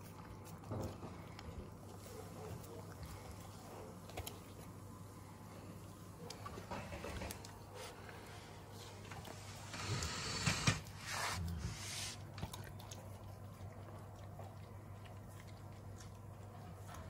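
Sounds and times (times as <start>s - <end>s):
dog licking floor: 0.0s - 4.8s, 6.2s - 17.0s
dog munching wet food: 0.0s - 10.1s, 10.8s - 17.0s.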